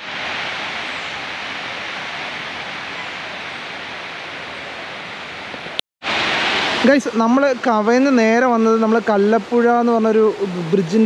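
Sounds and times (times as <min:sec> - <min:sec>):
stream flowing: 0:00.0 - 0:11.0.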